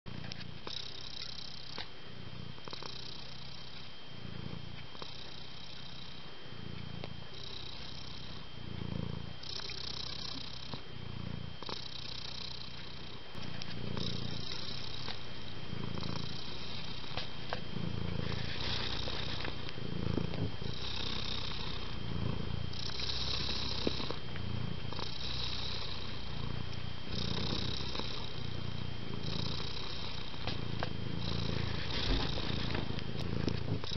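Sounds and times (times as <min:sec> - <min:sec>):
cat purring: 0:00.1 - 0:33.9
faint high whine: 0:00.1 - 0:33.9.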